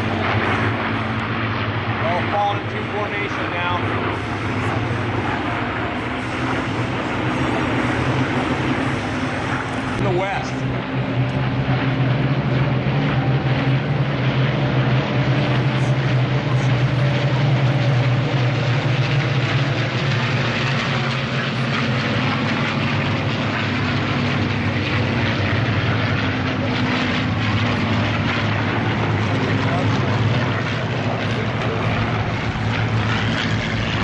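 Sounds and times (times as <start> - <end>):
propeller planes flying by: 0.0 - 34.0.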